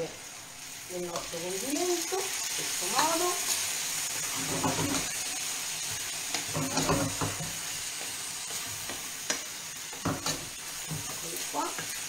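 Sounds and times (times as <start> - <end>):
gnocchi sizzling in a skillet: 0.0 - 12.0.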